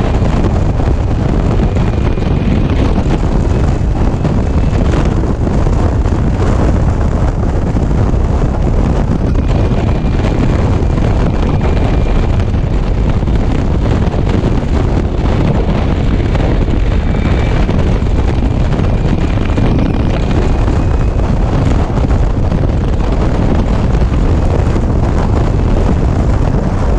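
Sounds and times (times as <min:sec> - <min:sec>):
road and traffic noise: 0:00.0 - 0:26.9
wind buffeting microphone: 0:00.0 - 0:26.9.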